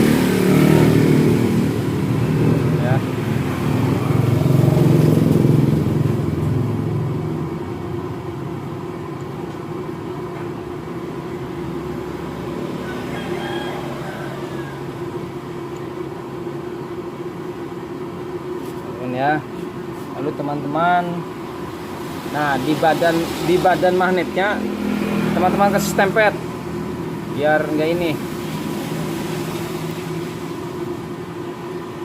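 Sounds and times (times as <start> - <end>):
vehicle engine humming: 0.0 - 32.0.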